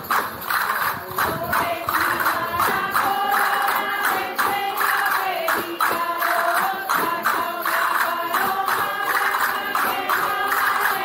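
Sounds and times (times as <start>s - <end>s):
hand percussion with jingles: 0.0s - 11.0s
group singing in unison: 1.1s - 11.0s.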